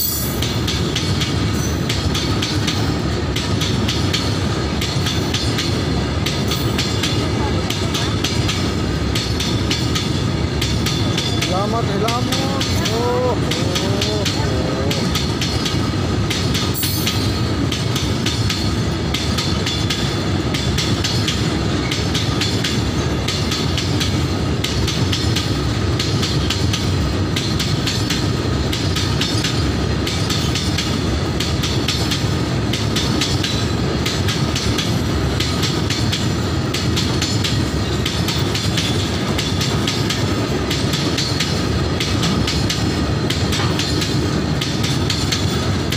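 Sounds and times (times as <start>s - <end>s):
freight train rumbling past: 0.0s - 45.9s
wheels clickety-clack over rail joints: 0.0s - 45.9s.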